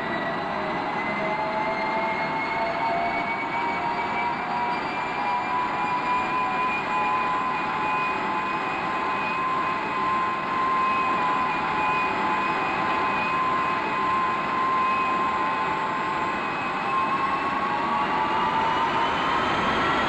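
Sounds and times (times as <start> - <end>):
jet engine rushing and whining: 0.0 - 20.0.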